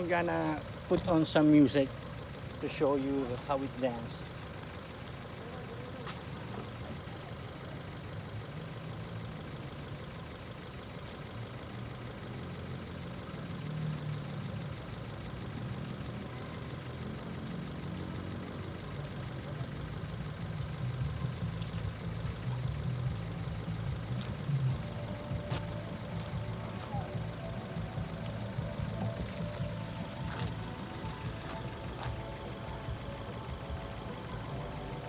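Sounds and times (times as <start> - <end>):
muffled car engine rumble: 0.0 - 35.0.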